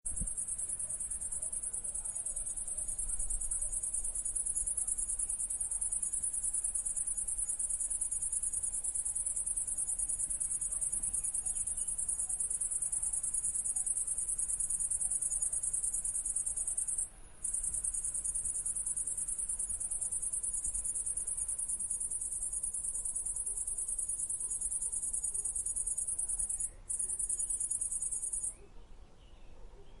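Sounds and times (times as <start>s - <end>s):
crickets chirring: 0.1s - 28.6s.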